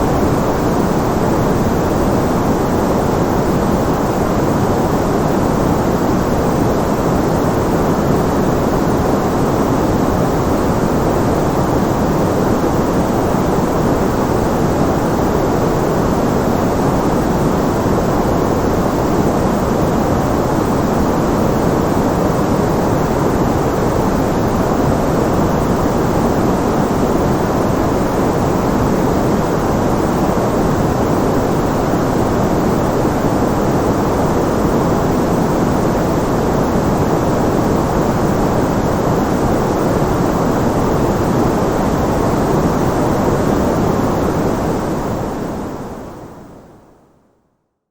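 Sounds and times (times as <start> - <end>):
steady white noise: 0.0 - 47.8.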